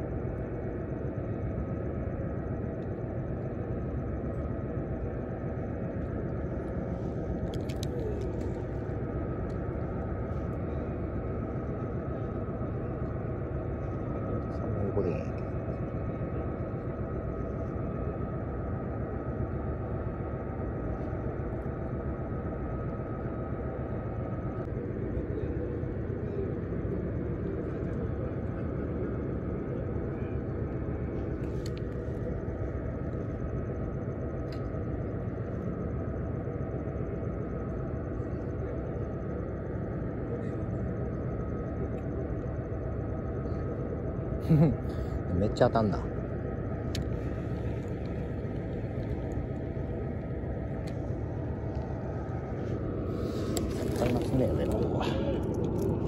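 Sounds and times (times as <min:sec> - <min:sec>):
faint high hum: 0:00.0 - 0:56.0
low harbour rumble: 0:00.0 - 0:56.0.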